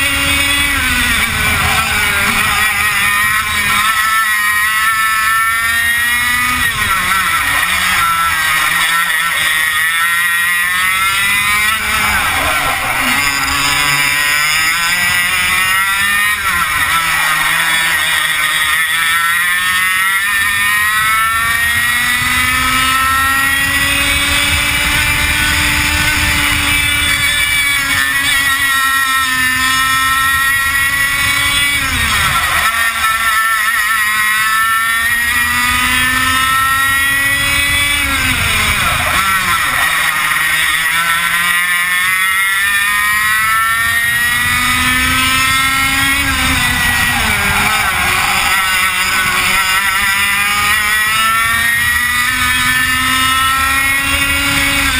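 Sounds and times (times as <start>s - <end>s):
kart engine racing: 0.0s - 54.9s.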